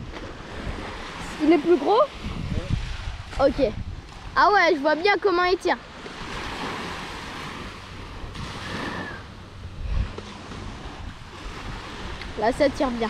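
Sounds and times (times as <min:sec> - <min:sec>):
waves washing on sand: 0:00.0 - 0:13.0
wind rumbling on microphone: 0:00.0 - 0:13.0.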